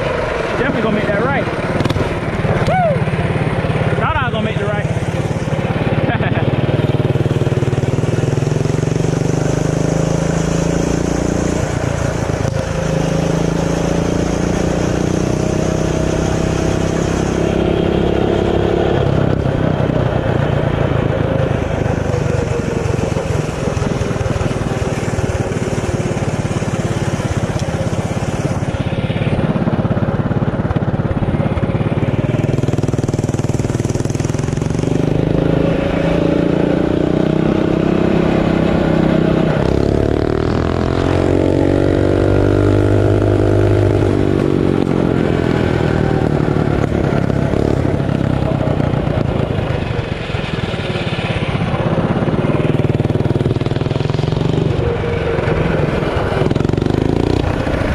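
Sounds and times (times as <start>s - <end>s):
mini bike engine revving: 0.0s - 57.9s.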